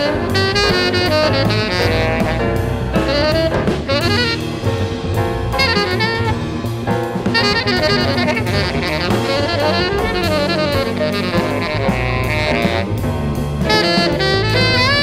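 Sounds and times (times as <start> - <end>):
drum kit: 0.0 - 15.0
saxophone melody: 0.0 - 15.0.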